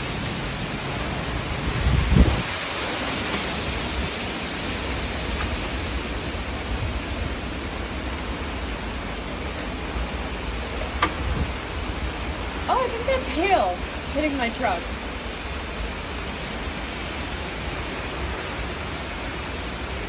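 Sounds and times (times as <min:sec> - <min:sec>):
strong wind rushing: 0:00.0 - 0:20.0
wind buffeting microphone: 0:00.0 - 0:20.0.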